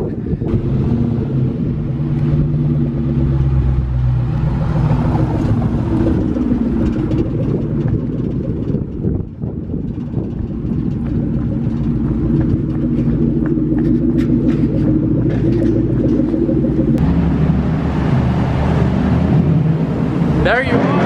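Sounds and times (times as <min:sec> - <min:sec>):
car engine and exhaust: 0:00.0 - 0:21.0.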